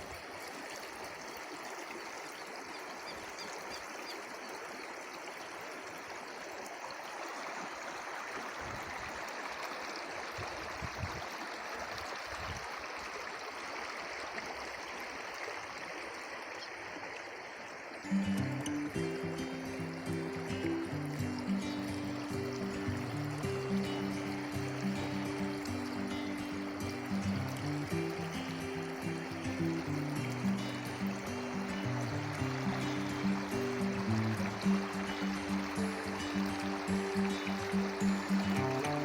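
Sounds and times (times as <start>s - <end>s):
running water flowing: 0.0s - 39.0s.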